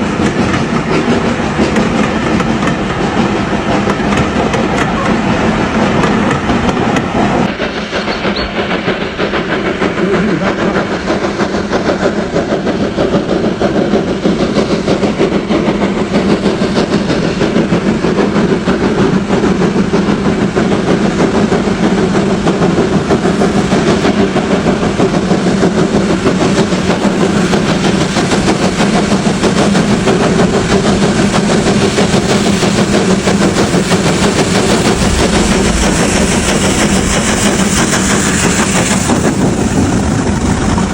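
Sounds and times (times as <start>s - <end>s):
train rumbling along rails: 0.0s - 40.9s.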